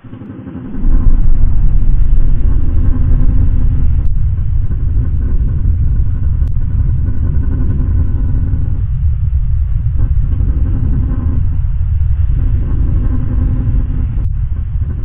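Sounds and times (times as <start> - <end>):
deep low rumble: 0.0 - 15.0.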